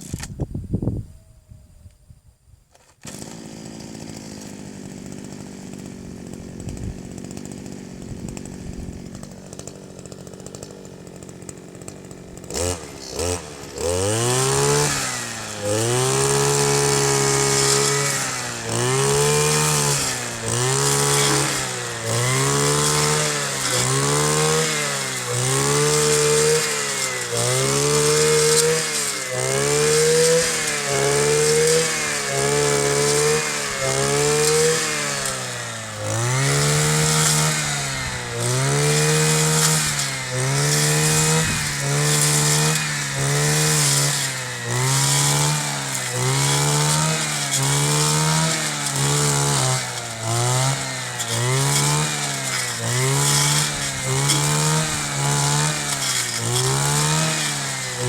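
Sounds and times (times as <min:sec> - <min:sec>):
brush cutter engine revving: 0:02.7 - 0:58.0.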